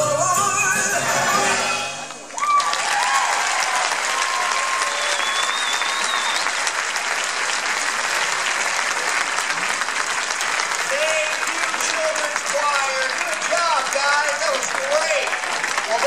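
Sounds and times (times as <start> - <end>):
congregation applauding: 1.9 - 16.0.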